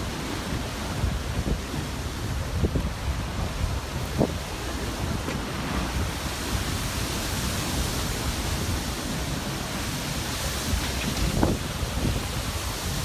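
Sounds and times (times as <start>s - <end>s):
ocean surf: 0.0s - 13.0s
wind rushing: 0.0s - 13.0s.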